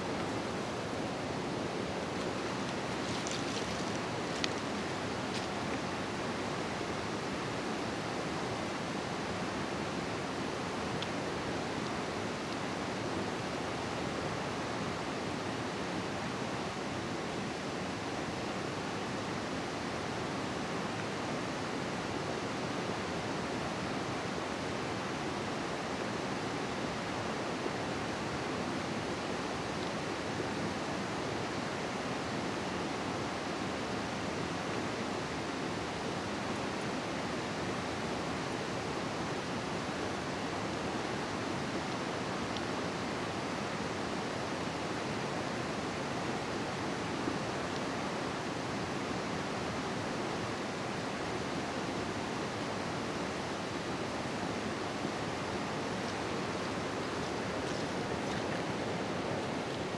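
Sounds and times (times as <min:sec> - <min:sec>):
river running over gravel: 0:00.0 - 0:59.9.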